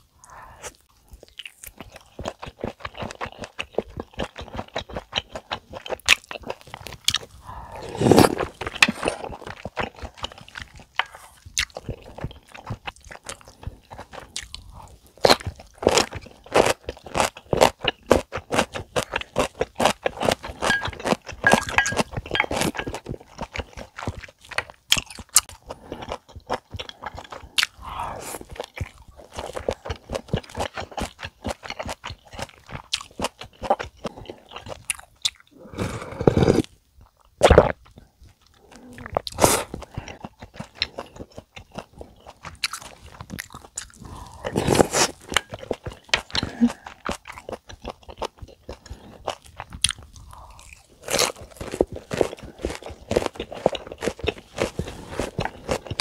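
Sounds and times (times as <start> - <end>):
close chewing and mouth sounds: 0.0 - 56.0.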